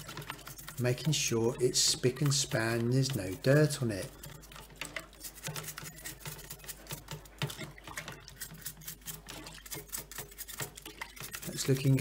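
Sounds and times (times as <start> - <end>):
toothbrush scrubbing mesh filter: 0.0 - 12.0.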